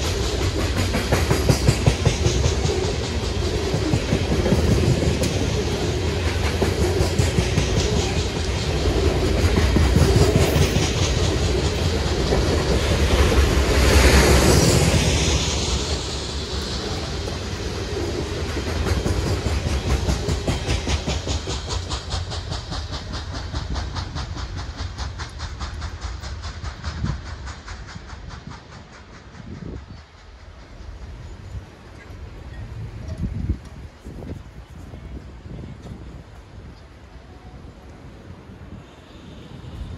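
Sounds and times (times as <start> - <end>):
train wheels clacking over joints: 0.0 - 34.2.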